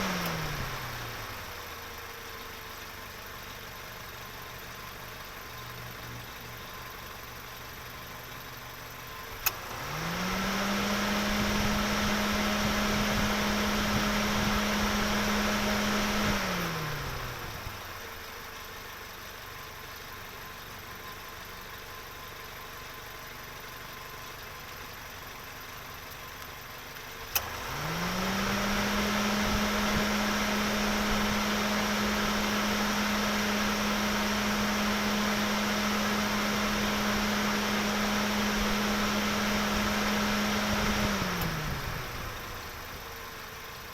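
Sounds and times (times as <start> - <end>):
car engine idling: 0.0 - 10.4, 11.2 - 43.9.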